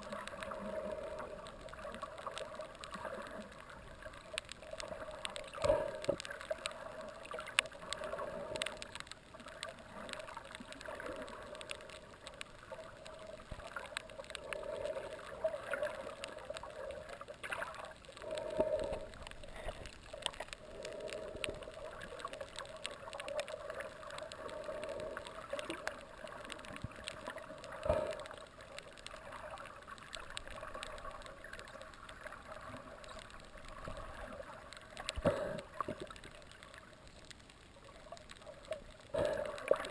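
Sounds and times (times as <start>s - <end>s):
underwater water noise: 0.0s - 39.9s.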